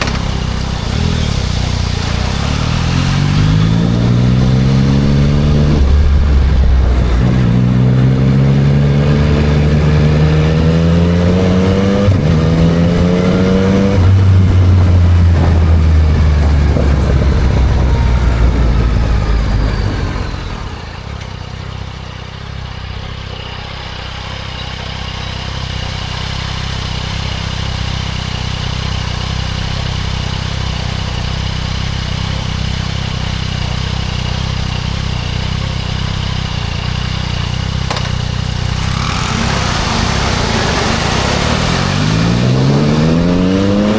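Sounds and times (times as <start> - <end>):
motorcycle engine idling: 0.0 - 10.3, 14.0 - 43.9
motorcycle engine accelerating: 0.0 - 43.9.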